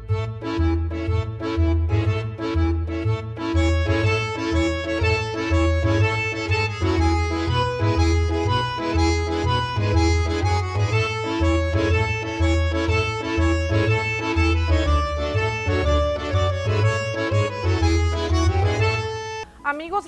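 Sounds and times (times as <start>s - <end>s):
pulsing bass line: 0.0s - 19.3s
accordion music: 0.0s - 20.0s.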